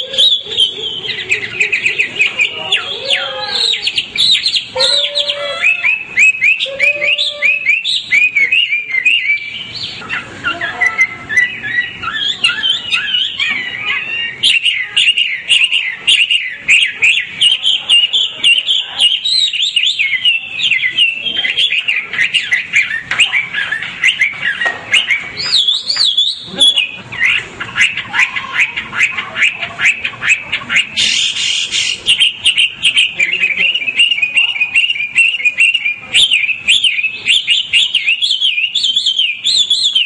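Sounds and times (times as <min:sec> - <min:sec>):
bird singing chirps and trills: 0:00.0 - 0:40.0.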